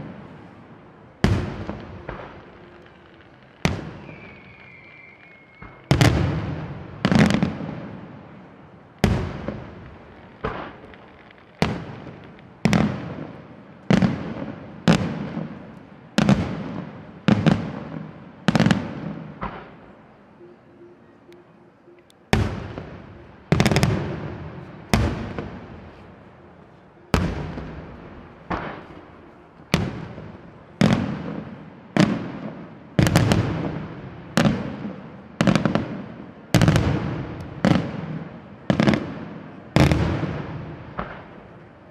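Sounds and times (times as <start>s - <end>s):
rolling echo: 0.0s - 41.9s.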